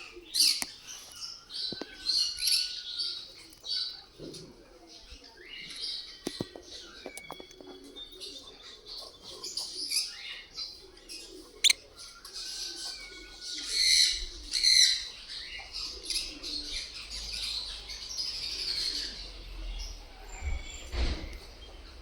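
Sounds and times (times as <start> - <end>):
parrots chirping and chattering: 0.0 - 22.0.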